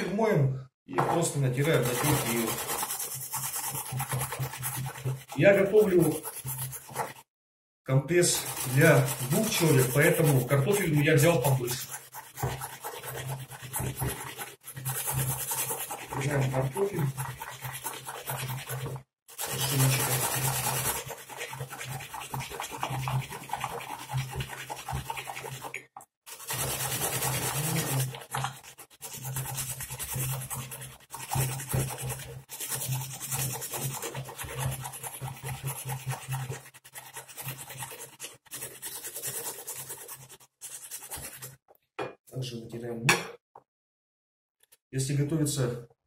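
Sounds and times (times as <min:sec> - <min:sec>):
potato grated on hand grater: 0:01.3 - 0:07.2, 0:08.2 - 0:41.6.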